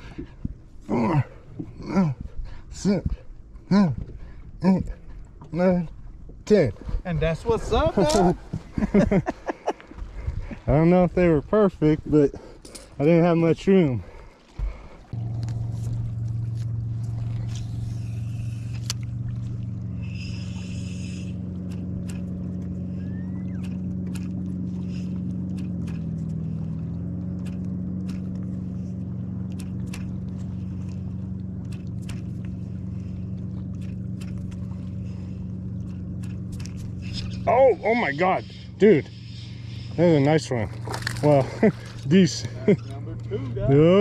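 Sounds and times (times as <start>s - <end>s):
boat motor humming: 0.0s - 44.0s.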